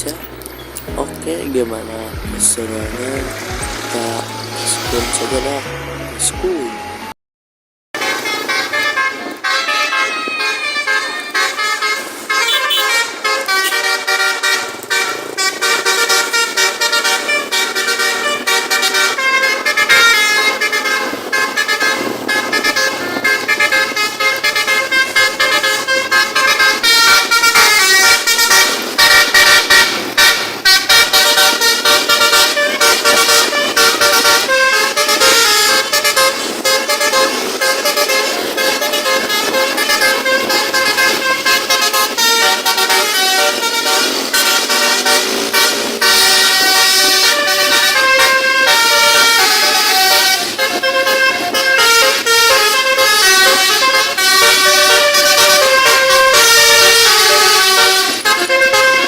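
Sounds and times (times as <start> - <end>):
multi-tone bus horns: 0.0 - 7.2, 8.0 - 59.0.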